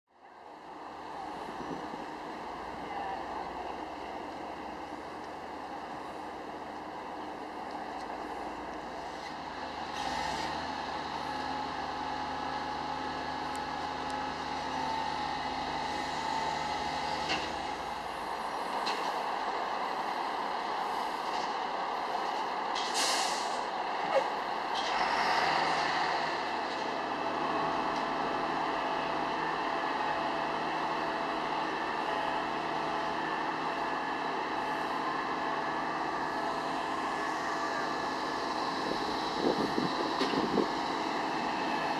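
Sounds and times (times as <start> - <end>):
truck engine running: 0.4 - 41.9.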